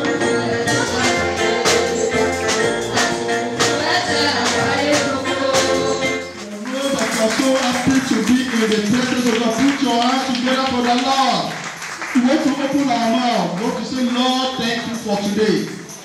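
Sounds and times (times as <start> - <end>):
live church band: 0.0 - 16.0
percussion beat: 0.0 - 16.0.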